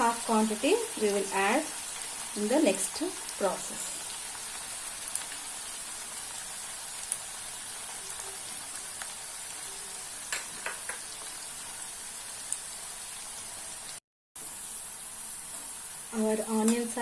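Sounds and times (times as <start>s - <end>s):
onions deep-frying sizzling: 0.0s - 17.0s.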